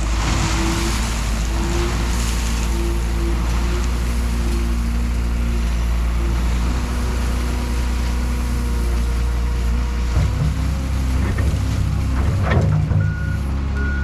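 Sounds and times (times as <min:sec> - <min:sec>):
large vehicle engine running: 0:00.0 - 0:14.0.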